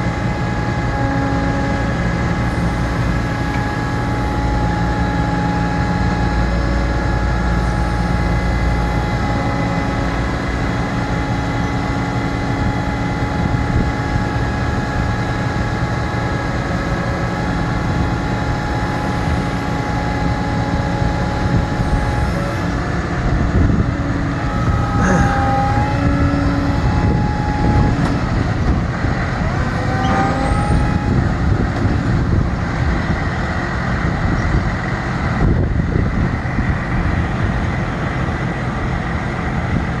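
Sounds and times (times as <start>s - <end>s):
hydraulic whine: 0.0s - 38.8s
truck engine running: 0.0s - 40.0s.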